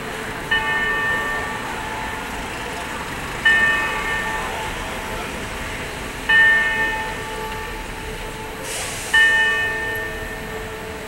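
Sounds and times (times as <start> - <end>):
city traffic hum: 0.0 - 11.0
clock tower bell striking: 0.0 - 11.0.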